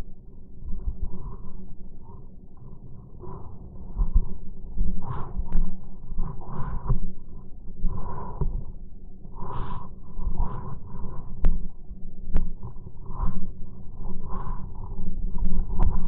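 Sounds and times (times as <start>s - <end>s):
low rumble on microphone: 0.0s - 16.0s.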